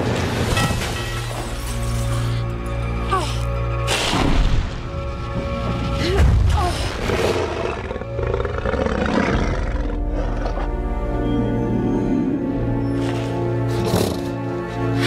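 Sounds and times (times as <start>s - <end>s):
dramatic orchestral music: 0.0s - 15.0s.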